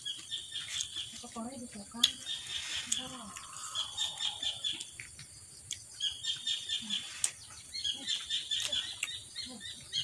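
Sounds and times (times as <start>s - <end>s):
birds chirping: 0.0s - 10.0s
mouth sounds of eating: 0.0s - 10.0s.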